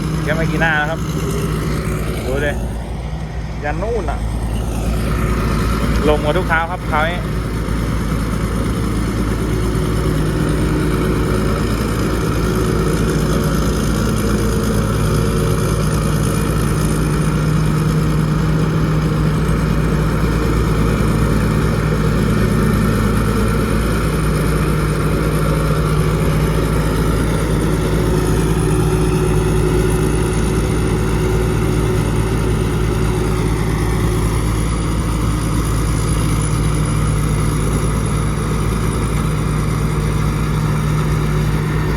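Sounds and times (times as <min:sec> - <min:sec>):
combine harvester engine running: 0:00.0 - 0:41.9
high mechanical whine: 0:00.0 - 0:41.9.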